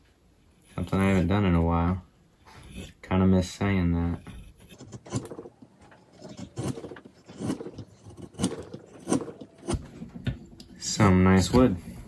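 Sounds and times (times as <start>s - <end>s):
chisel scraping wood: 0.4s - 1.7s, 2.4s - 12.0s.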